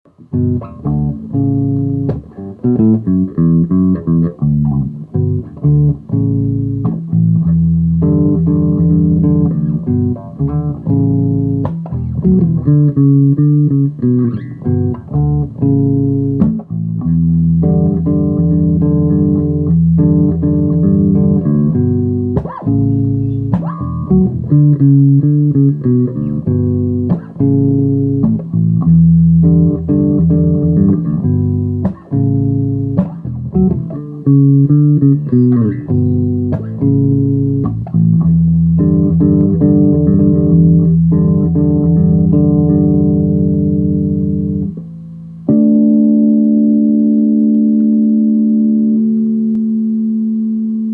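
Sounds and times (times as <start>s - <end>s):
guitar plucked notes and chords: 0.1s - 50.9s.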